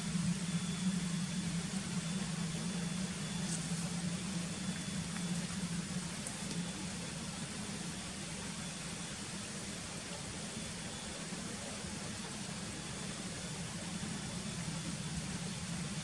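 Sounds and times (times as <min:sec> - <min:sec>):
locomotive engine humming: 0:00.0 - 0:16.0.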